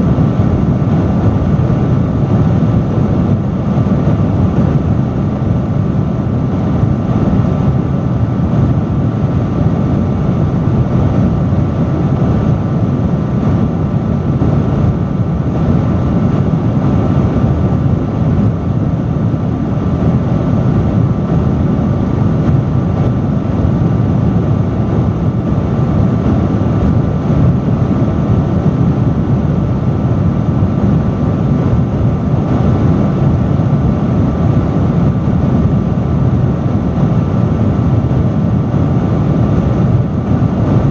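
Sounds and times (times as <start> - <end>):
industrial fan rushing air: 0.0 - 40.9.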